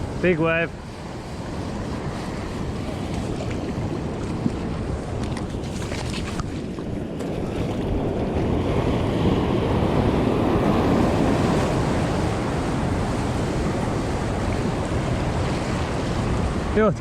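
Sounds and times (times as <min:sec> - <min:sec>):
waves washing over rocks: 0:00.0 - 0:17.0
wind buffeting microphone: 0:00.0 - 0:17.0.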